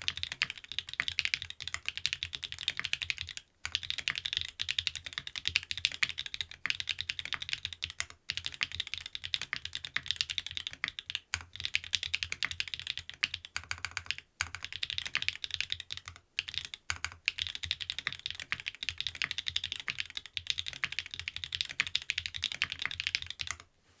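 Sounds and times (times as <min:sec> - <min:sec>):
mechanical keyboard typing: 0:00.0 - 0:23.6.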